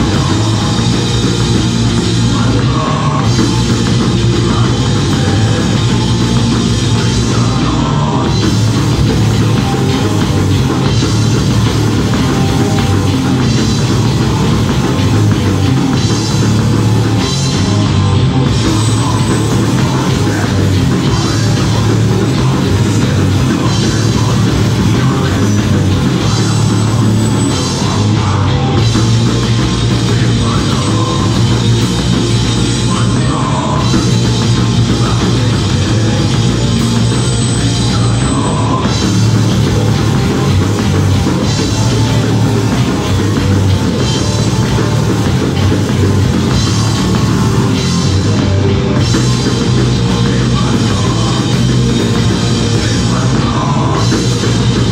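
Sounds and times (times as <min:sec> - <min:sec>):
bass guitar: 0:00.0 - 0:54.9
electric guitar: 0:00.0 - 0:54.9
pounding drum kit: 0:00.0 - 0:54.9
singer shouting vocals: 0:00.0 - 0:54.9.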